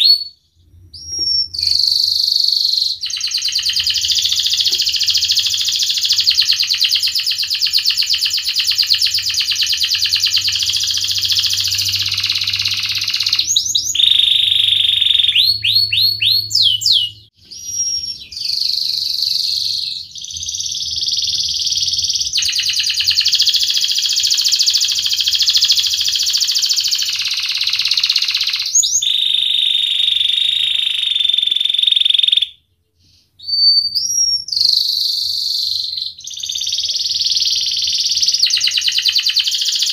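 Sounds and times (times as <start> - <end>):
canary singing rolling trills: 0.0 - 32.6, 33.4 - 39.9.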